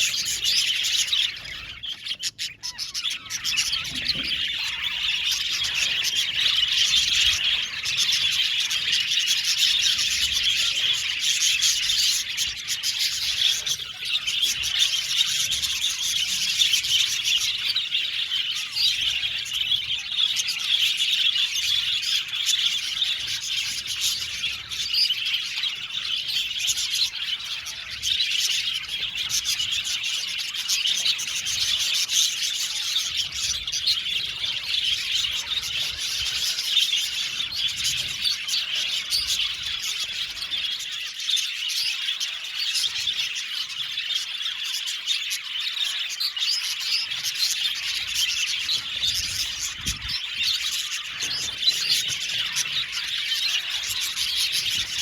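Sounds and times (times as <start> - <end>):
bird squawks: 0.0 - 55.0
budgerigars chirping: 0.0 - 55.0.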